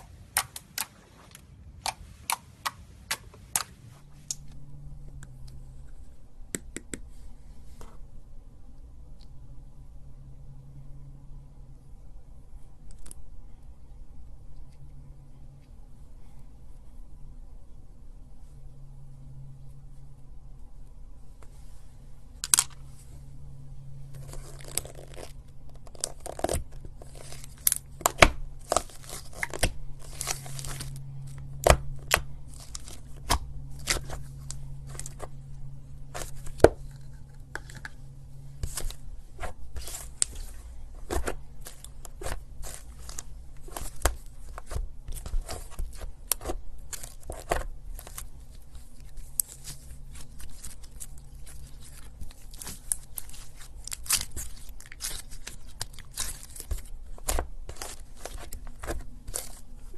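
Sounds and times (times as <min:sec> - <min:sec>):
low hum: 0:00.0 - 0:59.9.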